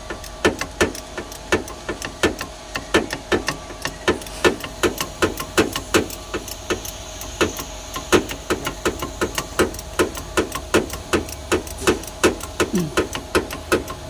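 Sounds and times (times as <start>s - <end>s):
rhythmic mechanical clicking: 0.0s - 14.0s.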